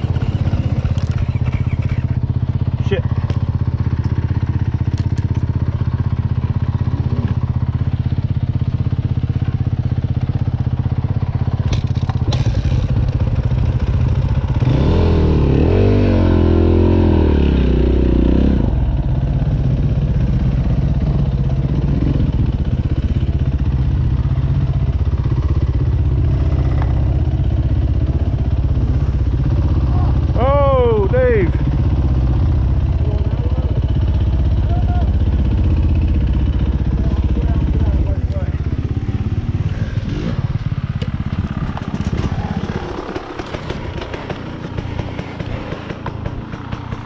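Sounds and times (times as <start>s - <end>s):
dirt bike engine revving: 0.0s - 7.8s, 11.5s - 47.0s.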